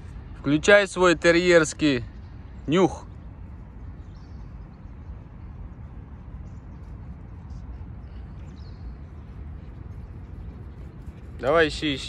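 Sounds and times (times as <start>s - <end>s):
faint bird chirps: 2.1s - 12.0s.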